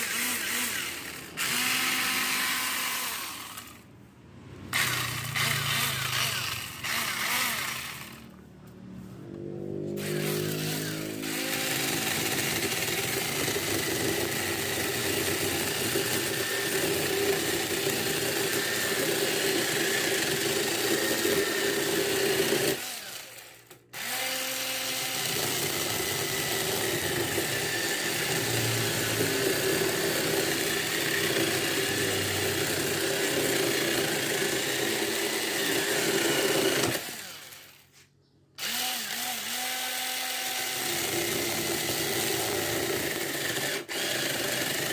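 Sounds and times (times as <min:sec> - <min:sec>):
electric chainsaw running: 0:00.0 - 0:03.9, 0:04.5 - 0:38.0, 0:38.6 - 0:44.9.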